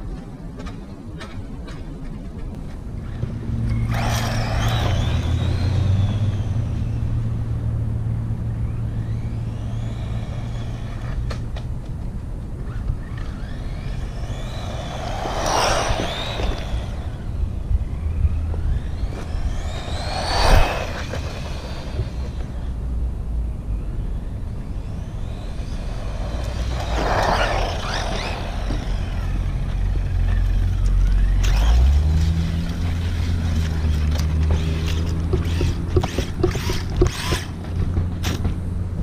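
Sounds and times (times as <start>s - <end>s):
steady low hum: 2.3s - 39.0s
rc car electric motor whining: 3.5s - 7.8s, 8.4s - 11.8s, 12.6s - 22.8s, 23.7s - 38.4s.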